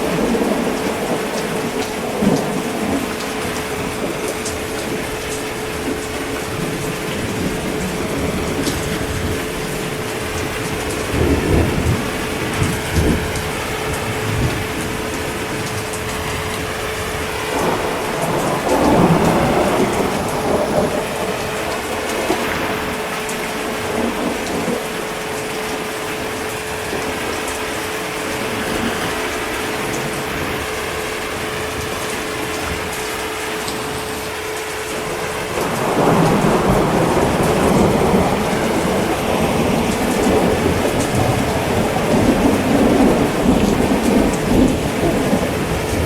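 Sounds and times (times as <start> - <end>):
steady rain falling: 0.0 - 46.0
thunder rumbling: 0.0 - 46.0.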